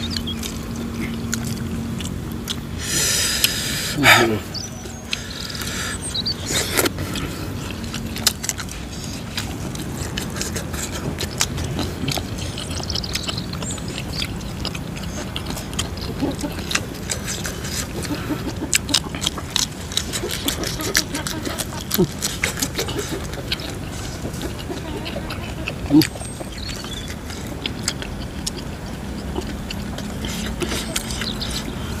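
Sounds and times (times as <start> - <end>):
chewing and crunching: 0.0 - 32.0
low background hum: 0.0 - 32.0.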